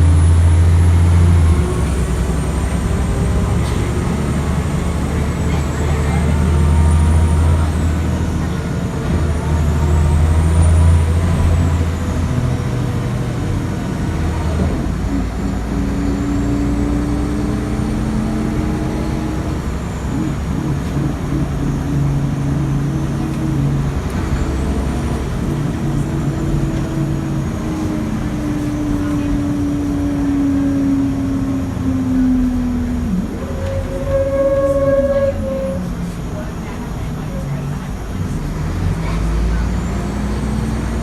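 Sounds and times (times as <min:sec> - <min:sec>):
bus diesel engine running: 0:00.0 - 0:41.0.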